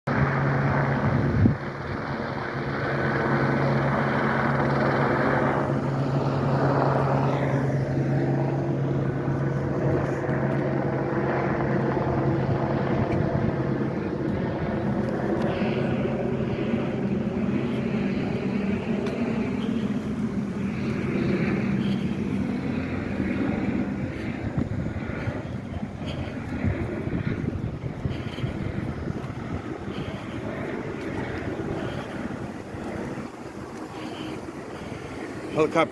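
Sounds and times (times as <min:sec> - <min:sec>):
engine drone: 0:00.1 - 0:35.9.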